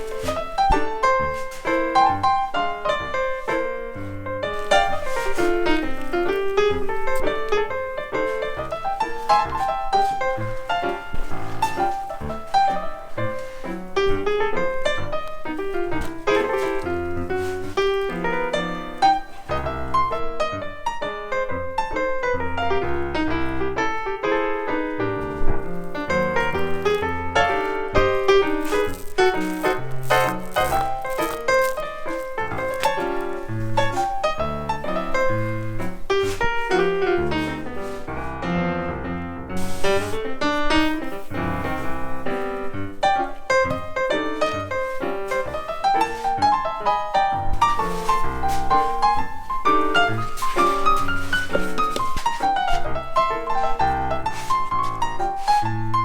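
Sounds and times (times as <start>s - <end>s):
quick piano run: 0.0s - 56.0s.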